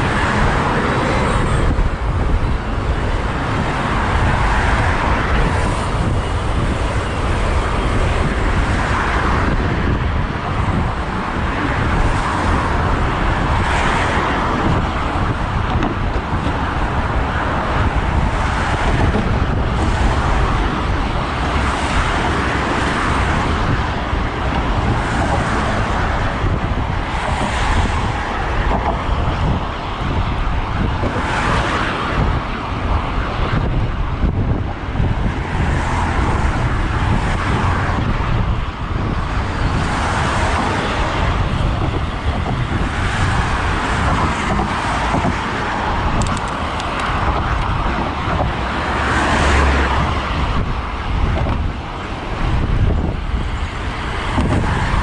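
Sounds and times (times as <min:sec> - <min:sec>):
cars passing: 0:00.0 - 0:55.0
road traffic: 0:00.0 - 0:55.0
wind rushing over microphone: 0:00.0 - 0:55.0.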